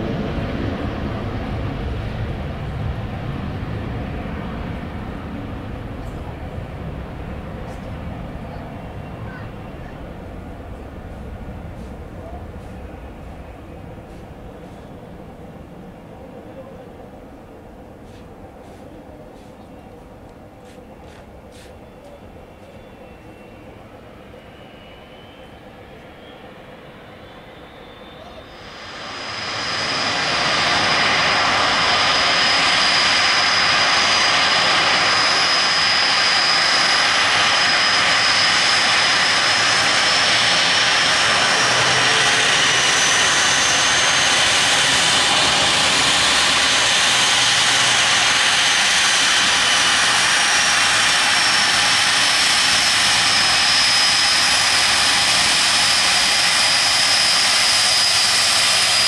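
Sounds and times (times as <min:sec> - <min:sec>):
jet engines rushing with whine: 0:00.0 - 0:59.0.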